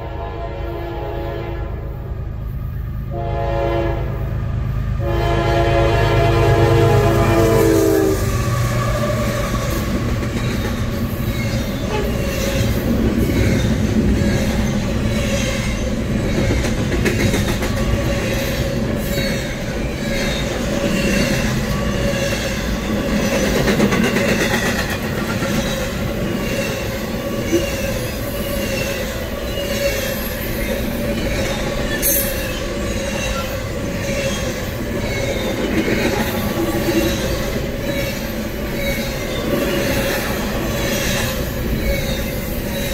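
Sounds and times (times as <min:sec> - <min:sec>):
freight train wheels rumbling on rail: 0:00.0 - 0:42.9.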